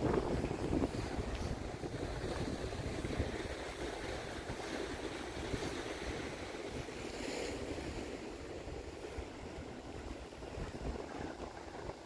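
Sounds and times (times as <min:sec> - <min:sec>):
surf washing over rocks: 0:00.0 - 0:12.0
wind buffeting microphone: 0:00.0 - 0:12.0.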